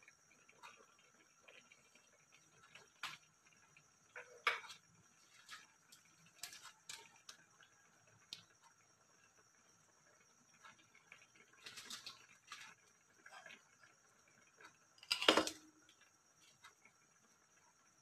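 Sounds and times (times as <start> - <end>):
faint steady high hiss: 0.0 - 18.0
porridge simmering with pops: 0.0 - 18.0.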